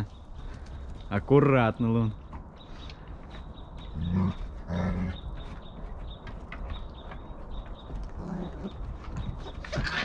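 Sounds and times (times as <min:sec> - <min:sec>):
paws scrabbling on wooden deck: 0:01.9 - 0:10.0.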